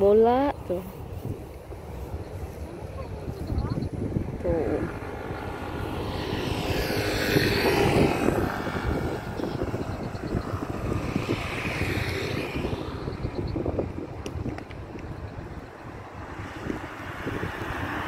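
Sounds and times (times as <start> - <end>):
jet airliner engines rushing: 1.2 - 18.0.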